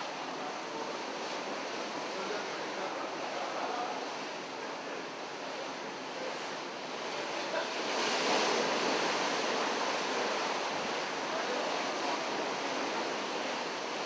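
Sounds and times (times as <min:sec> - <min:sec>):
sea water rushing: 0:00.0 - 0:14.0.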